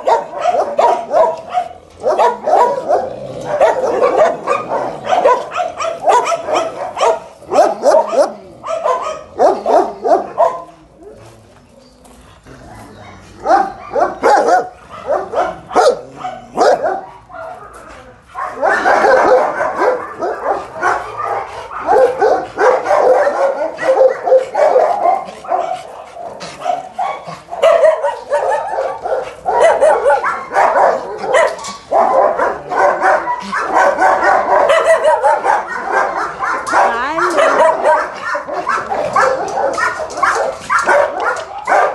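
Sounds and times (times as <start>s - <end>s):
dogs barking: 0.0s - 11.5s, 12.5s - 41.9s.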